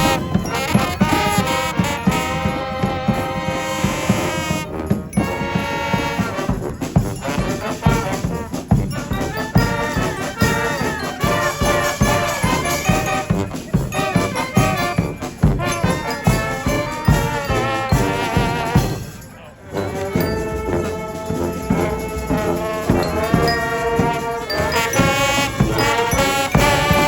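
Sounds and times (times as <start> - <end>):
steady drum beat: 0.0 - 27.0
trumpets and trombones melody: 0.0 - 27.0.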